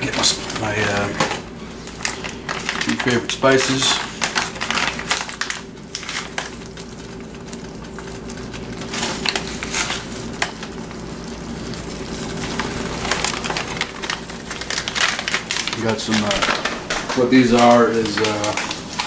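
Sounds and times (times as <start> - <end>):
pot sizzling on stove: 0.0 - 19.0.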